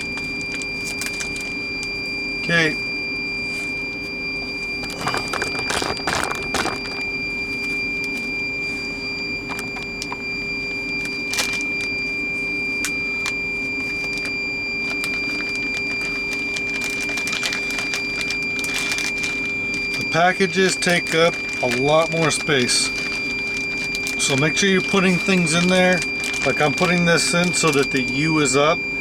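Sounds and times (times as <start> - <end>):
plastic packaging crinkling: 0.0 - 2.0, 4.6 - 8.7, 10.9 - 12.1, 12.8 - 29.0
steady electrical hum: 0.0 - 29.0.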